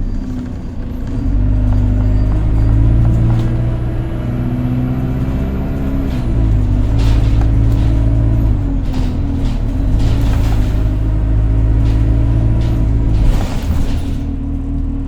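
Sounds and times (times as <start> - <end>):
bus diesel engine droning: 0.0 - 15.0
light rattles: 0.2 - 14.7.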